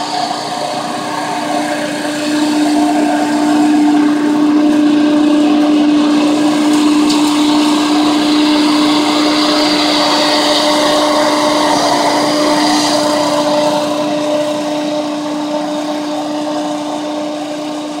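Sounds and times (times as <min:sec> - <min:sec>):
leaf blower running: 0:00.0 - 0:18.0.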